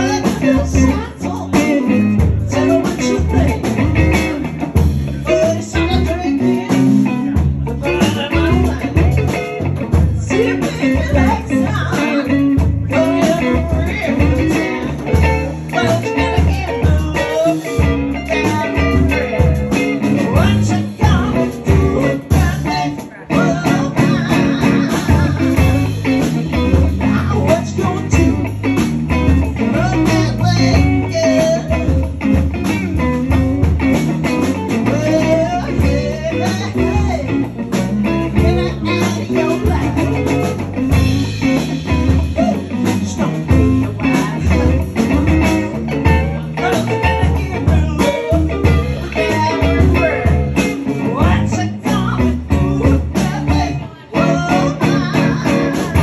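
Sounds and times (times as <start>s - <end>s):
bass: 0.0s - 56.0s
drums: 0.0s - 56.0s
electric guitars: 0.0s - 56.0s.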